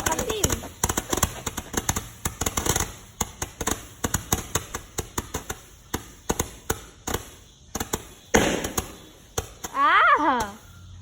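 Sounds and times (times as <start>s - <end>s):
firework popping: 0.0s - 11.0s.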